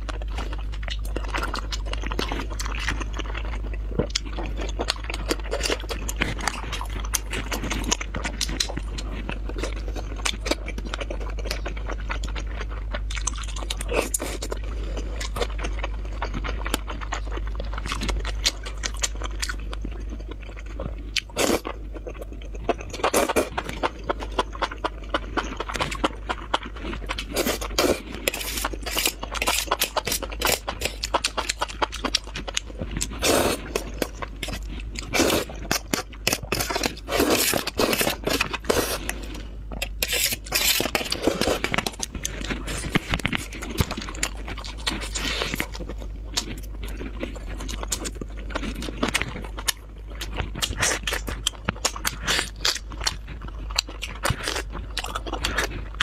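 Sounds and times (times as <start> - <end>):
steady low hum: 0.0 - 56.0
wet chewing and mouth smacks: 0.0 - 56.0.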